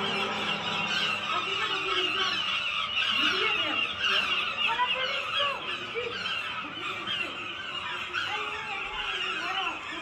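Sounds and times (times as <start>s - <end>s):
babble of overlapping voices: 0.0s - 10.0s.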